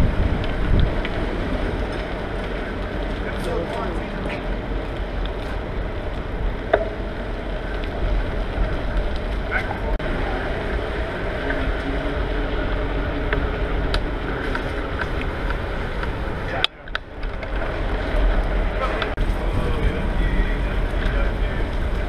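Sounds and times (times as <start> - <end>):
bicycle road and wind noise: 0.0 - 22.0.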